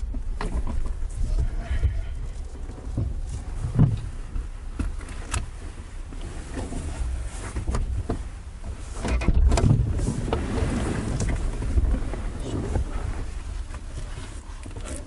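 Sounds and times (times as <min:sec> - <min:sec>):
wind noise: 0:00.0 - 0:05.6, 0:06.4 - 0:14.3
car road and engine rumble: 0:00.0 - 0:15.0.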